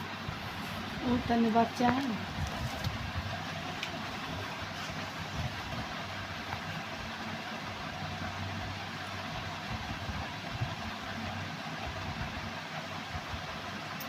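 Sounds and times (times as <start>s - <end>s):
constant hiss: 0.0s - 14.0s
mechanical hum: 0.0s - 14.0s.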